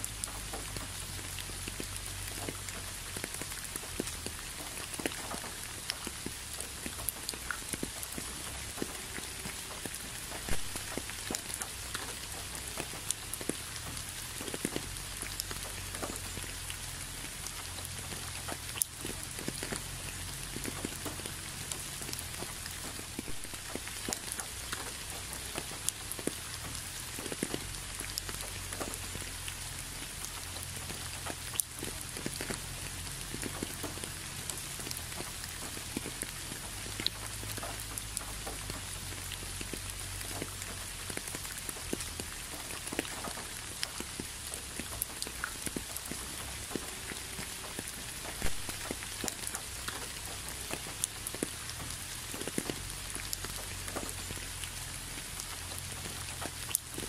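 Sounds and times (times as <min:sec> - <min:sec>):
rain hiss: 0:00.0 - 0:57.0
raindrops ticking: 0:00.0 - 0:57.0.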